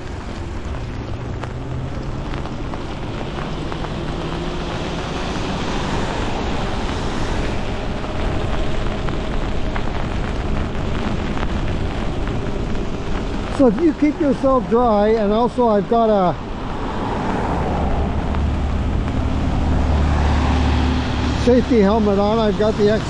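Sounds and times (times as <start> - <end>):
tyres hissing on wet road: 0.0 - 23.0
wind rushing over microphone: 0.0 - 23.0.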